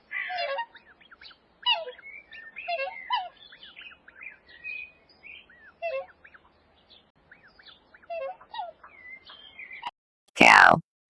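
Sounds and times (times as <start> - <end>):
birds chirping and whistling: 0.2 - 9.9.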